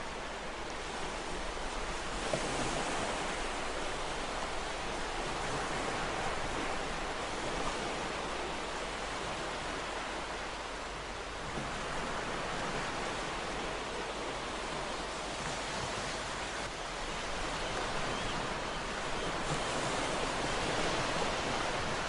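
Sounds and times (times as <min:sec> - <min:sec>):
ocean waves on shore: 0:00.0 - 0:22.0.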